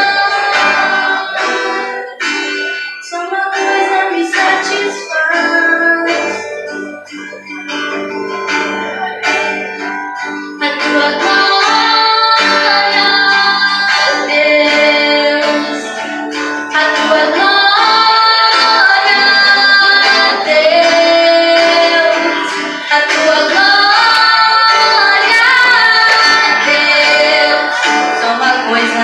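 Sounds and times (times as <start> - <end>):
instrumental accompaniment: 0.0 - 29.0.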